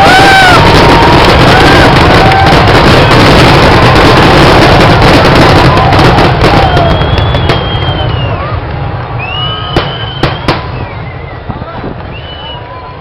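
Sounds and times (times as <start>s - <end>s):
fireworks crackling and banging: 0.0s - 13.0s
fireworks whistling: 0.0s - 13.0s.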